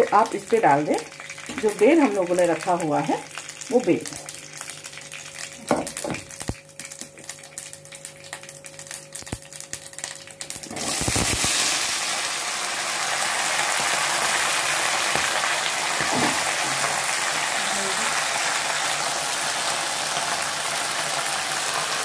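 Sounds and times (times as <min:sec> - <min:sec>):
oil sizzling loudly: 0:00.0 - 0:22.0
seeds crackling in hot oil: 0:00.0 - 0:22.0.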